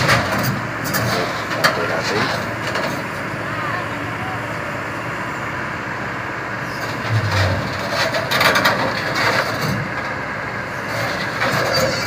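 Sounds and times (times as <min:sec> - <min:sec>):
heavy machinery running: 0:00.0 - 0:12.0.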